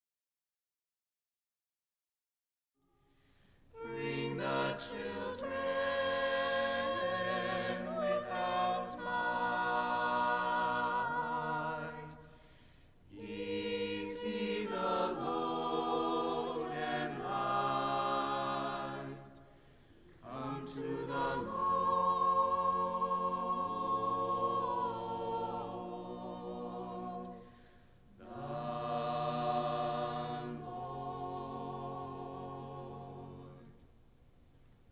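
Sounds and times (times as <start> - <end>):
mixed choir singing a cappella: 3.7 - 12.5, 13.1 - 33.8.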